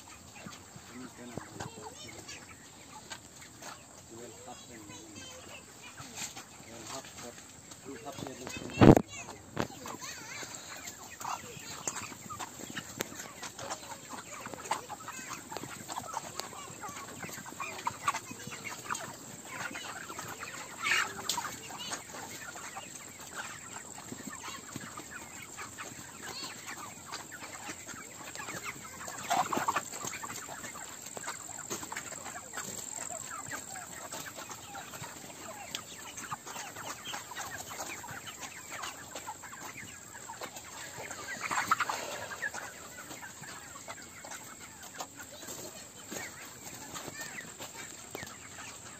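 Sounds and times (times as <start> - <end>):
chickens clucking and chirping: 0.0 - 48.9
loud chicken calls: 0.0 - 48.9.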